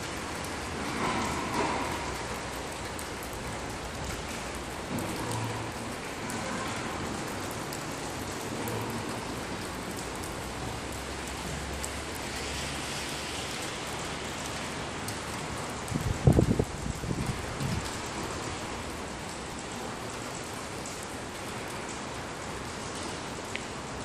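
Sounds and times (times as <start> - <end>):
rain-like hiss: 0.0 - 24.0.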